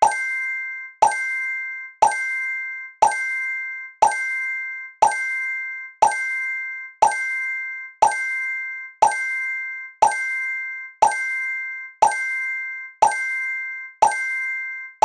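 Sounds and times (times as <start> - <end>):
ringing chime tone: 0.0 - 15.0.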